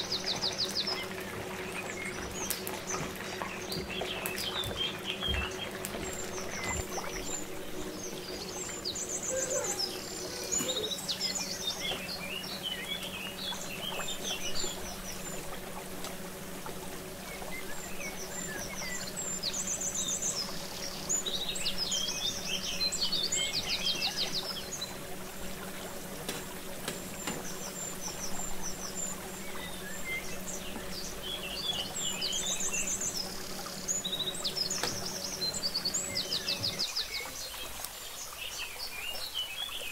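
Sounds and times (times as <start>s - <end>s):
small birds chirping: 0.0s - 16.0s, 17.0s - 25.0s, 26.0s - 39.9s
food deep-frying in hot oil: 0.0s - 39.9s
low steady hum: 0.0s - 39.9s.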